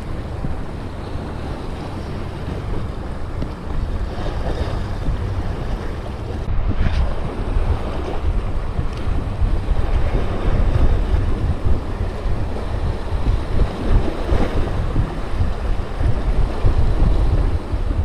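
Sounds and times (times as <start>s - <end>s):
waves washing against rocks: 0.0s - 18.0s
wind buffeting microphone: 0.0s - 18.0s.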